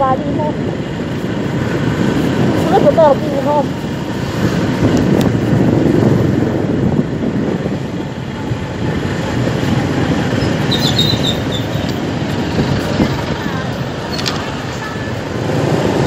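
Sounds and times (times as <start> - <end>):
scooter engine and tyres rumbling: 0.0 - 16.0
wind buffeting microphone: 0.0 - 16.0.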